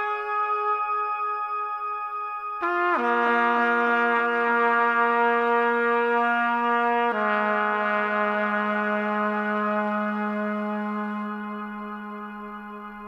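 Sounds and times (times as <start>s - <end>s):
trumpet with echoing delay: 0.0s - 13.0s.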